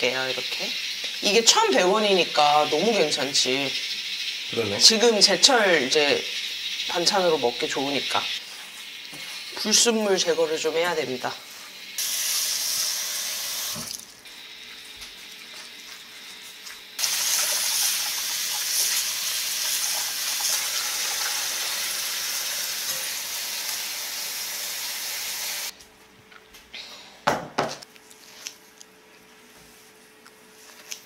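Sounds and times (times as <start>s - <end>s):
kitchen tap running: 0.0s - 25.7s.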